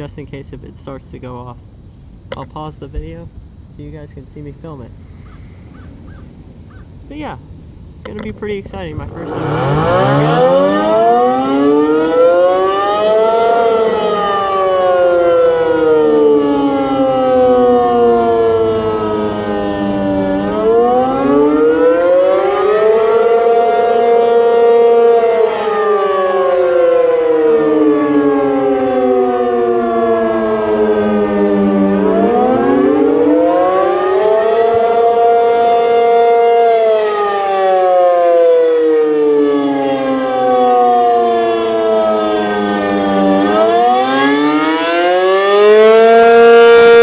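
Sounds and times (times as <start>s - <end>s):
tornado siren wailing: 8.1s - 47.0s.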